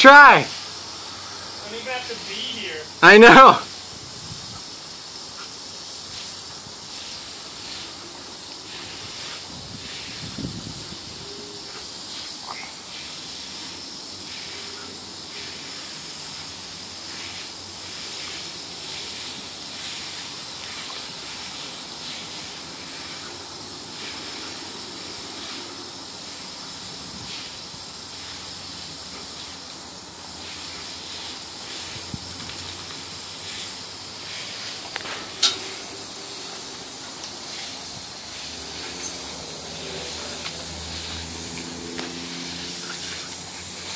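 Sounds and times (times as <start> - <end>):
water hissing from garden hose: 0.0 - 43.9
dog splashing at water spray: 3.6 - 43.9.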